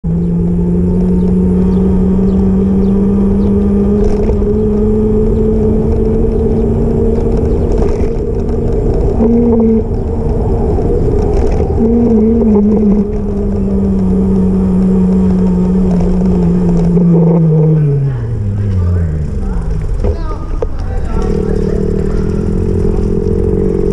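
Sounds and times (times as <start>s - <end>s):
electric bike motor whining: 0.1s - 23.9s
wind on microphone: 0.3s - 23.9s.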